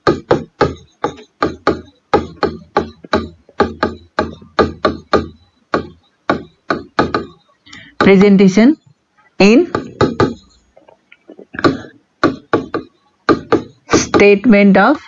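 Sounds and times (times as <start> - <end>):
marker writing on a whiteboard: 0.0 - 14.4.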